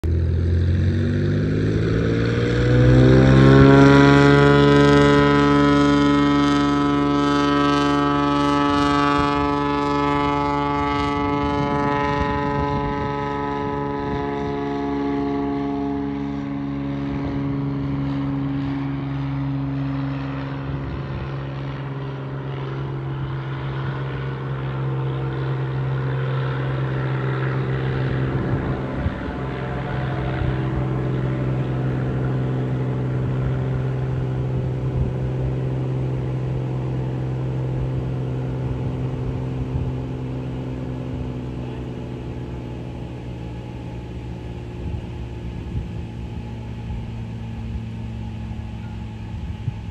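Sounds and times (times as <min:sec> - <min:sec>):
propeller plane engine drone: 0:00.0 - 0:49.9
steady low hum: 0:00.0 - 0:49.9.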